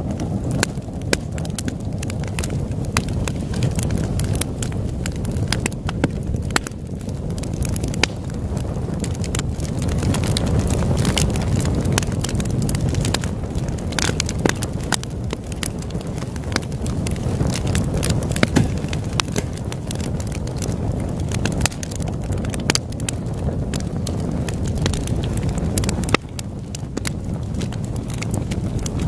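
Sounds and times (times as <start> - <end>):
campfire crackling and popping: 0.0 - 29.0
fire steady low rush: 0.0 - 29.0.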